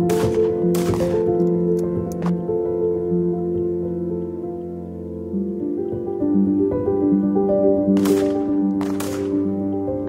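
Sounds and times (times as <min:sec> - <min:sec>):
calm background music: 0:00.0 - 0:10.0.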